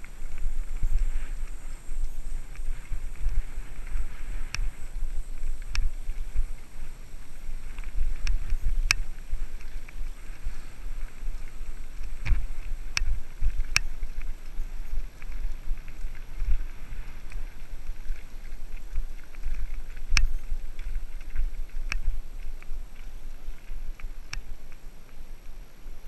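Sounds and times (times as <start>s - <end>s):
bike rattling over bumps: 0.0s - 25.2s
wind buffeting microphone: 0.0s - 26.0s.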